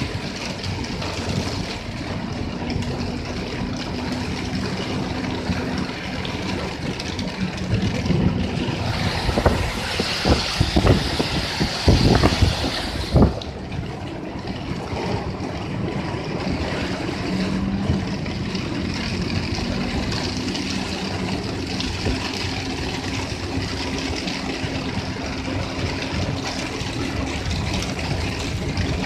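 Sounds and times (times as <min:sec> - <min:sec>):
car engine hum: 0:00.0 - 0:29.0
rain spattering on windshield: 0:00.0 - 0:29.0
tyre noise on wet road: 0:00.0 - 0:29.0.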